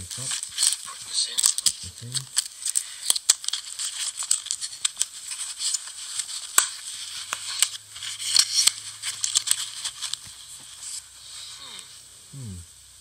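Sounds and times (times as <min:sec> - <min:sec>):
fabric sheath rustling and scraping: 0:00.0 - 0:11.6.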